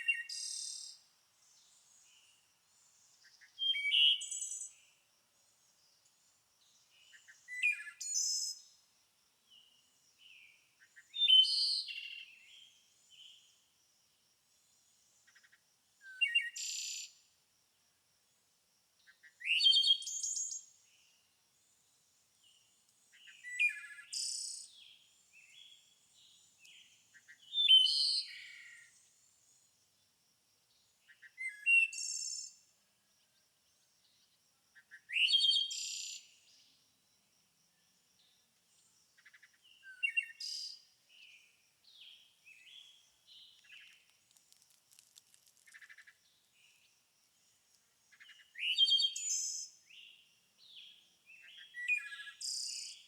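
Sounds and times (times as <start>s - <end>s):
songbird singing: 0.0s - 17.3s, 19.0s - 53.0s.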